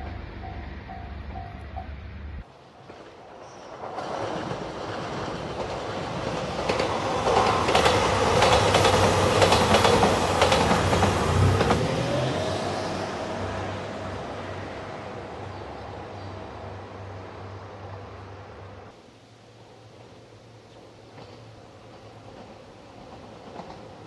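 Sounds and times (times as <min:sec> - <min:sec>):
diesel train passing: 0:00.0 - 0:24.0.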